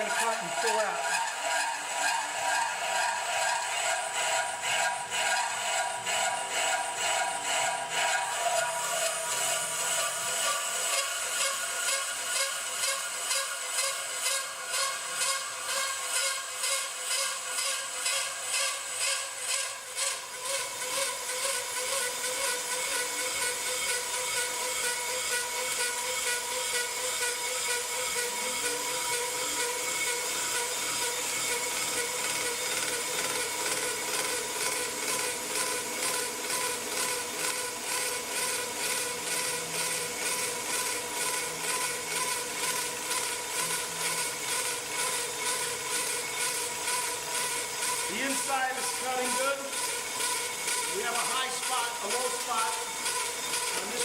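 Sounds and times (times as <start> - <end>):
brake lathe motor hum: 0.0 - 54.0.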